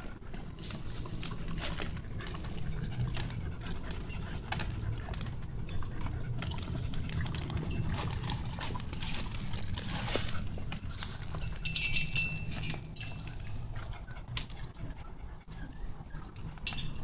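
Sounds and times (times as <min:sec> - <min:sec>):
horse chewing crunchy feed: 0:00.0 - 0:15.0
steady low rumble: 0:00.0 - 0:17.0.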